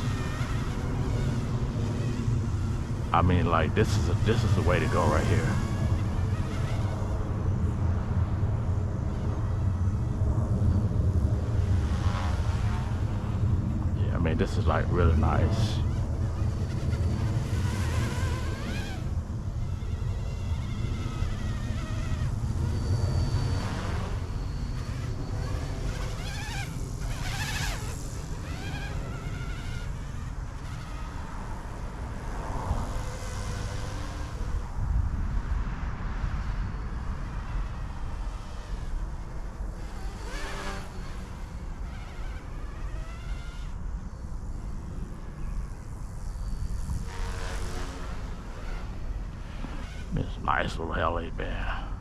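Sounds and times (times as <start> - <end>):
rc helicopter buzzing whine: 0.0 - 52.0.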